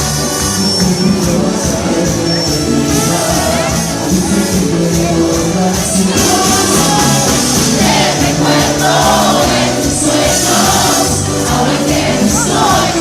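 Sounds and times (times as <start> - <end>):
live band playing: 0.0 - 13.0
several voices singing: 0.3 - 13.0.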